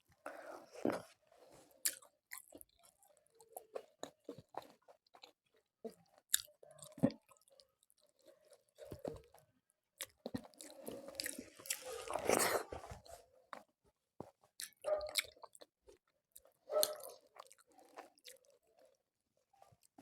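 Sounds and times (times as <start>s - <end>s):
person chewing: 0.3s - 9.4s, 10.0s - 13.7s, 14.5s - 19.0s.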